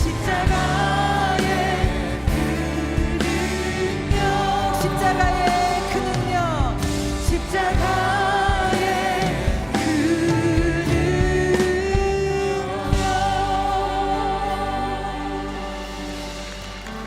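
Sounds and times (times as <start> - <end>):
guitar chords: 0.0 - 17.0
keyboard chords: 0.0 - 17.0
person singing: 0.0 - 17.0.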